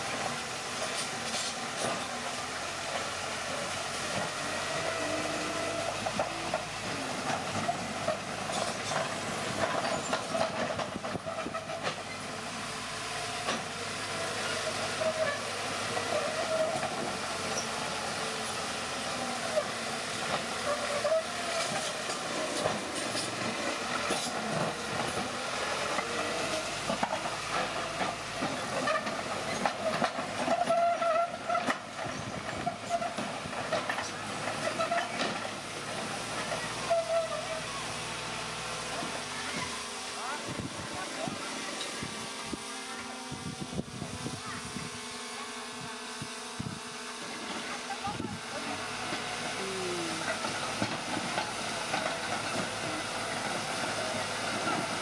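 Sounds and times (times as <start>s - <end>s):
steel tracks squealing and clanking: 0.0s - 43.7s, 47.2s - 55.0s
bulldozer engine running: 0.0s - 55.0s.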